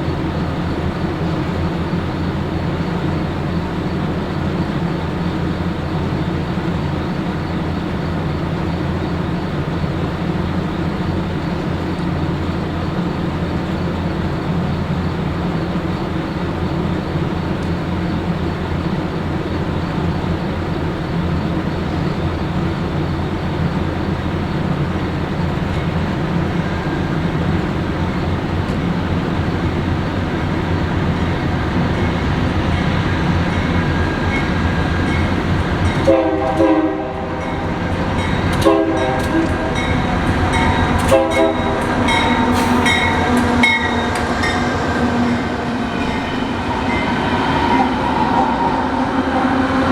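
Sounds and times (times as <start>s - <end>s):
train rumbling by: 0.0s - 49.9s.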